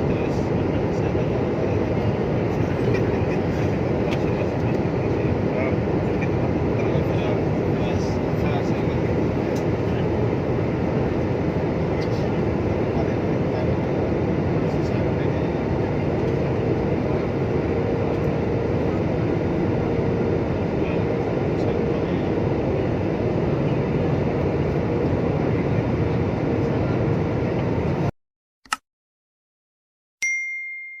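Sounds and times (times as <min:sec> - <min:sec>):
jet airliner cabin rumble: 0:00.0 - 0:28.1.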